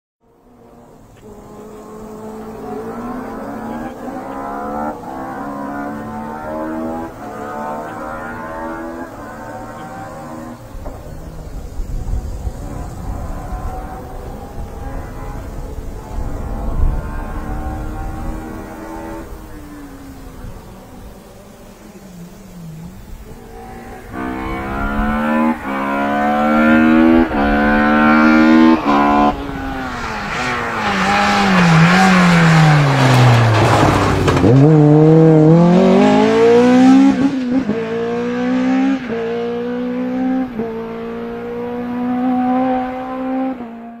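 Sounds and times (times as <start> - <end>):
race car engine upshifting: 0.7 - 44.0.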